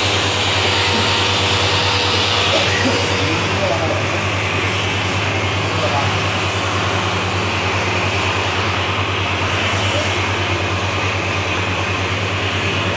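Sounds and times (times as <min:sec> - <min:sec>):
machine humming: 0:00.0 - 0:12.9.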